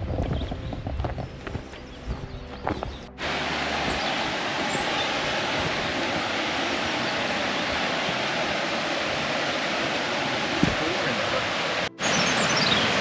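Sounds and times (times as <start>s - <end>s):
waterfall and rushing stream: 0.0s - 13.0s.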